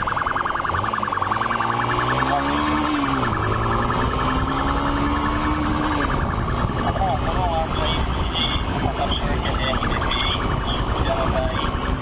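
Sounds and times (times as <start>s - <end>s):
police siren warbling: 0.0s - 12.0s.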